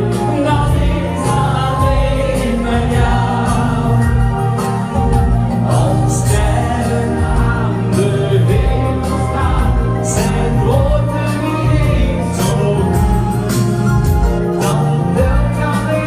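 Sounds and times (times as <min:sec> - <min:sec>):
man singing into a microphone: 0:00.0 - 0:04.0, 0:05.6 - 0:13.5, 0:14.5 - 0:16.0
backing music with steady beat: 0:00.0 - 0:16.0.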